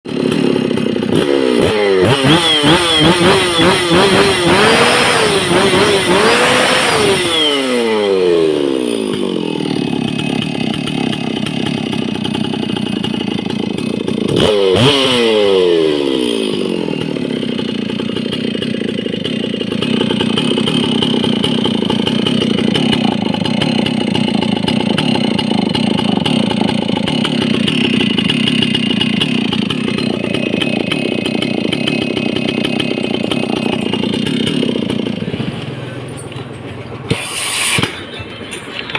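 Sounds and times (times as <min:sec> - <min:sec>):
chainsaw revving and idling: 0:00.1 - 0:38.9.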